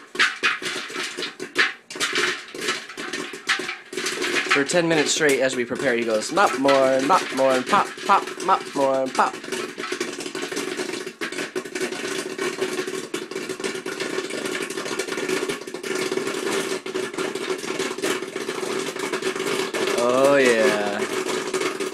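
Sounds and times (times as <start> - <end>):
popcorn kernels popping: 0.0 - 21.9
popcorn popper motor humming: 0.0 - 21.9.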